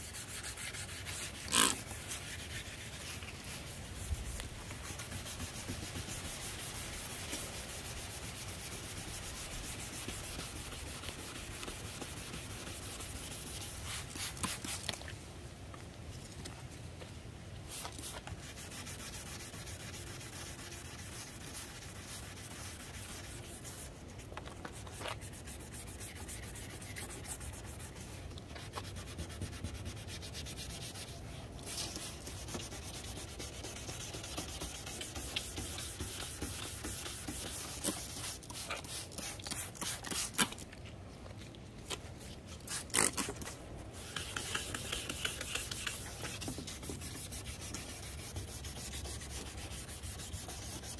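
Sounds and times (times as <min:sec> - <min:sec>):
sandpaper rubbing plastic: 0:00.0 - 0:14.9, 0:17.7 - 0:40.6, 0:42.2 - 0:50.9.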